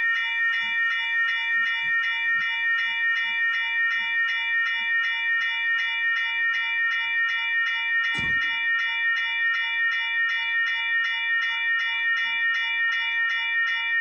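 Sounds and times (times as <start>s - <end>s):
electronic railroad crossing bell: 0.0s - 14.0s.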